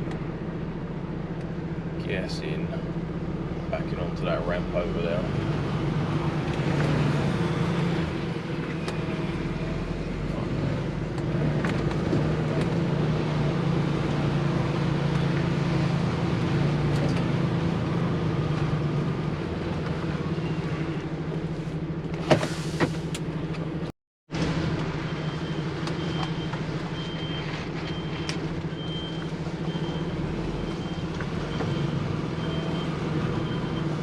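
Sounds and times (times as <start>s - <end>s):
diesel lorry engine running: 0.0s - 34.0s.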